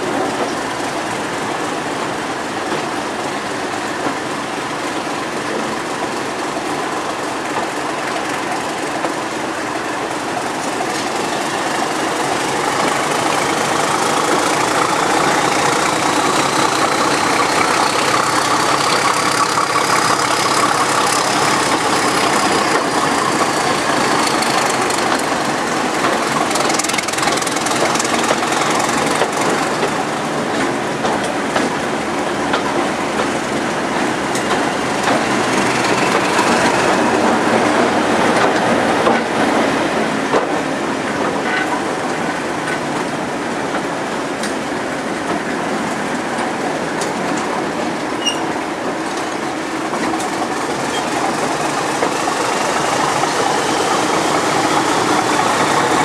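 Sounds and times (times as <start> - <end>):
diesel locomotive engine working hard: 0.0 - 56.0
train rumbling on rails: 0.0 - 56.0.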